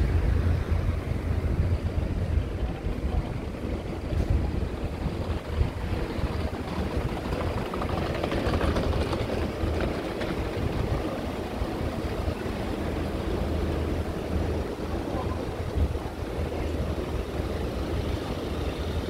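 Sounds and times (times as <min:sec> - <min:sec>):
traffic rumble: 0:00.0 - 0:19.0
wind buffeting microphone: 0:00.0 - 0:19.0.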